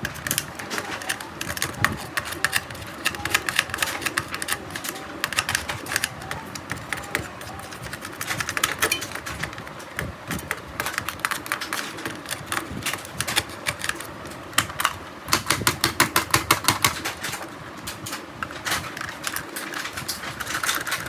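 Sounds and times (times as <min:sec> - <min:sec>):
sharp clicks and taps: 0:00.0 - 0:21.0.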